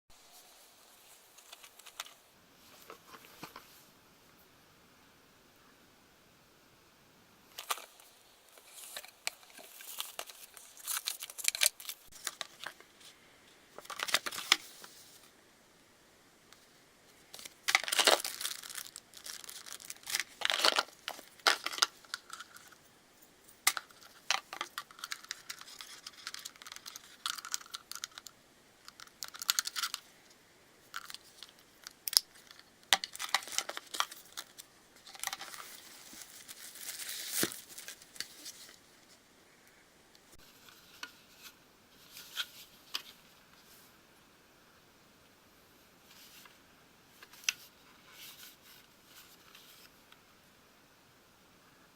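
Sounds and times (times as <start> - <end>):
crinkling and rustling handling noise: 0.2 - 4.0, 7.5 - 15.4, 16.5 - 39.3, 40.2 - 44.0, 46.0 - 50.2.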